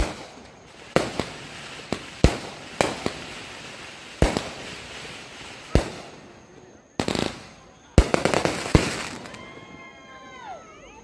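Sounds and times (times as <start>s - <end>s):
fireworks hiss: 0.0s - 9.5s
fireworks bangs: 0.0s - 10.5s.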